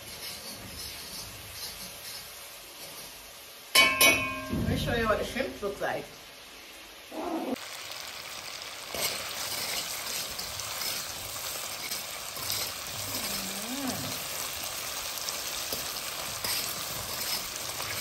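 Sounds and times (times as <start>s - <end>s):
shrimp sizzling in hot oil: 0.0s - 18.0s.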